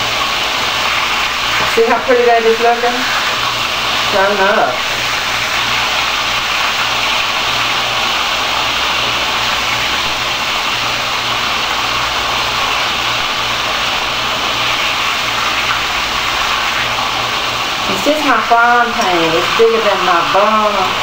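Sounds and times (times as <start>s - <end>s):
steak sizzling in a skillet: 0.0s - 21.0s.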